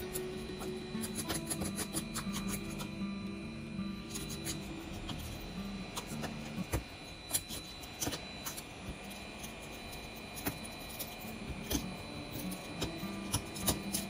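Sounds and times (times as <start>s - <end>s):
small tools clicking and scraping: 0.0s - 2.9s, 4.1s - 14.0s
faint steady high tone: 0.0s - 14.0s.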